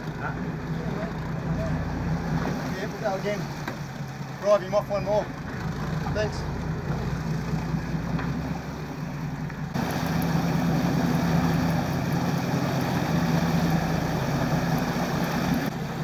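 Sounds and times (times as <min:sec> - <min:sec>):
boat engine running: 0:00.0 - 0:16.0
wind and water hiss: 0:00.0 - 0:16.0.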